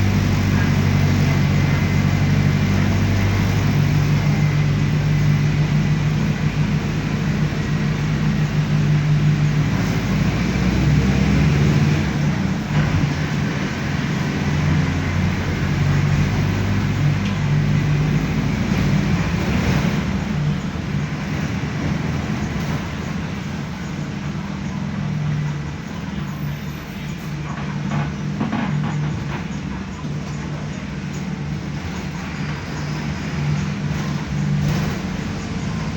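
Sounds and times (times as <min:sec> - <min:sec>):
bus diesel engine running: 0:00.0 - 0:35.9
road noise: 0:00.0 - 0:35.9.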